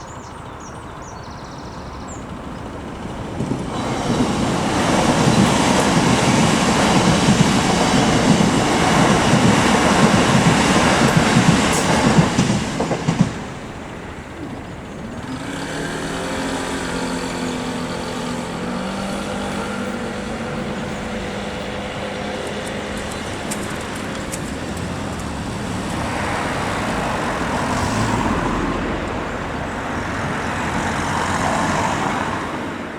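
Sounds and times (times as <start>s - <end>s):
electric train wheel and rail noise: 0.0s - 32.9s
vehicle engine noise: 0.0s - 32.9s.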